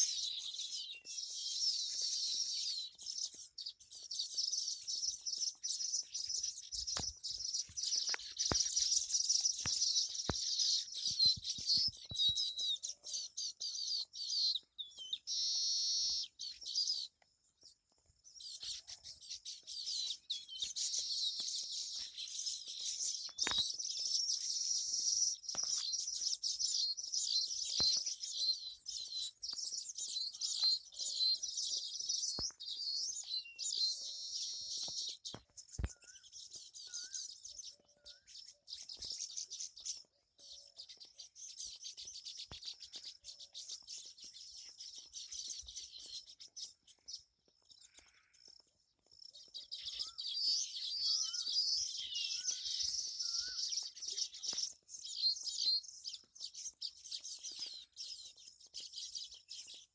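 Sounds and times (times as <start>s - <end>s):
weaver birds chirping and chattering: 0.0s - 59.9s.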